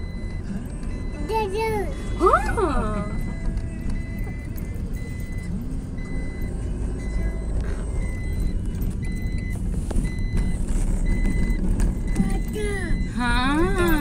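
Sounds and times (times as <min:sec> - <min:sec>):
car engine and road rumble: 0:00.0 - 0:14.0
dashboard warning beeps: 0:00.0 - 0:14.0.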